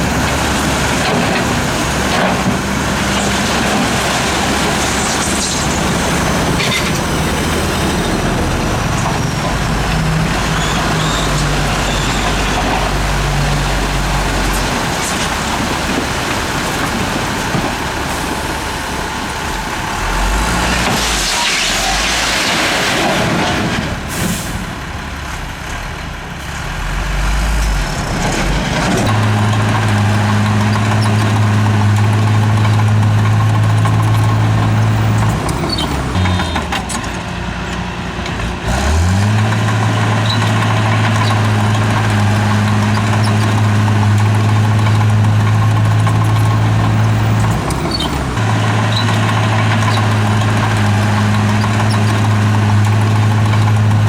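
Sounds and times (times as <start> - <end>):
heavy diesel engine running: 0.0 - 21.8, 22.7 - 54.0.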